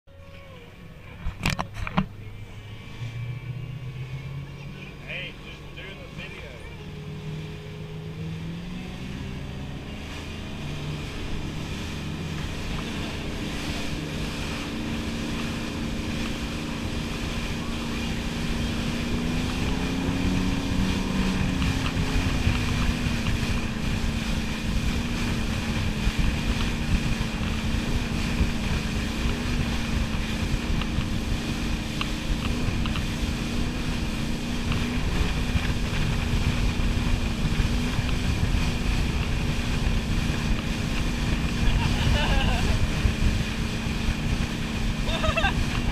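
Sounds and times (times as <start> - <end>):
boat engine running: 0.1 - 45.9
rush of boat wake: 0.1 - 45.9
wind buffeting microphone: 7.1 - 45.9.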